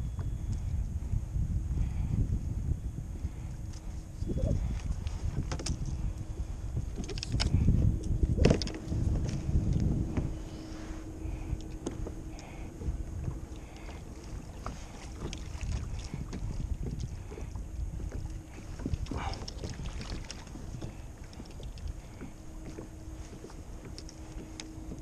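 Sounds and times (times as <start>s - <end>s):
wind buffeting microphone: 0.0s - 25.0s
water lapping against kayak hull: 4.4s - 25.0s.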